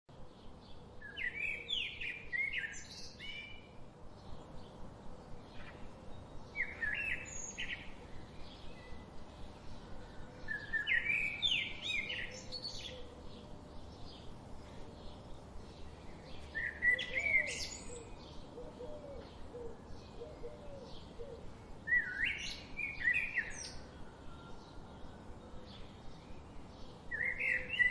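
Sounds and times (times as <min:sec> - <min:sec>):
faint bird chirps: 0:05.5 - 0:27.9.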